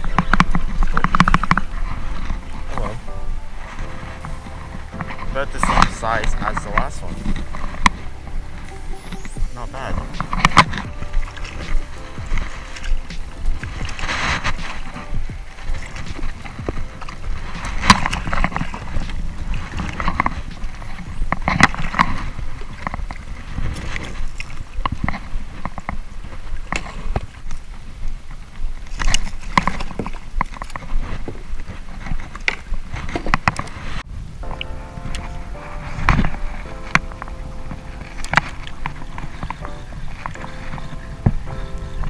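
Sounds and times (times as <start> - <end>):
fish thrashing at hull: 0.0 - 42.0
water splashing against kayak: 0.0 - 42.0.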